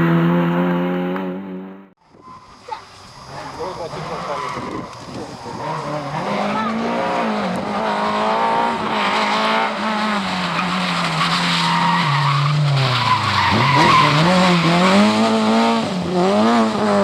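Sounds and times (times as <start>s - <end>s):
race car engine at high revs: 0.0s - 1.9s, 3.3s - 17.0s.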